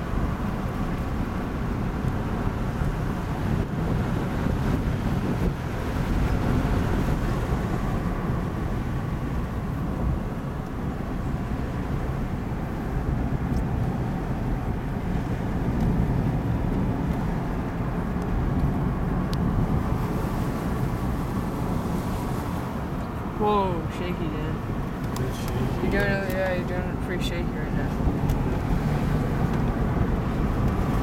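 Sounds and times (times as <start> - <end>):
car road noise: 0.0 - 31.0.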